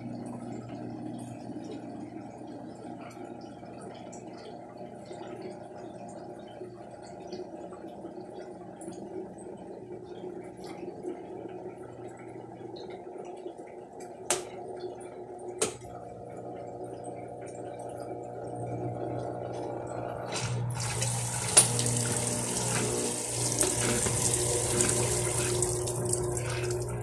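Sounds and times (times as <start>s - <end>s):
washing machine pump humming: 0.0s - 27.0s
water trickling and dripping: 0.1s - 20.0s, 20.6s - 27.0s.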